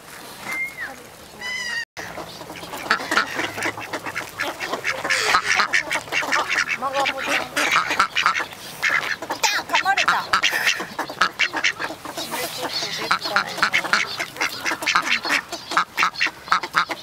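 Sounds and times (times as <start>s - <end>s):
ducks quacking: 1.4s - 17.0s.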